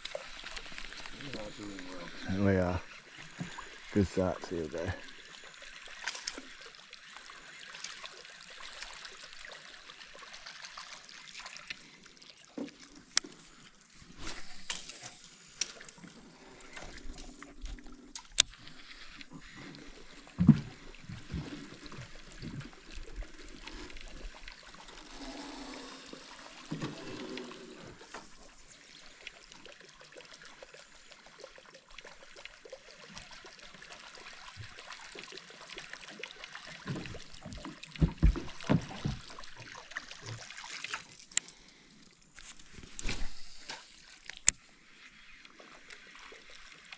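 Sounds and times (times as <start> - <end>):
water lapping around boat: 0.0 - 46.9.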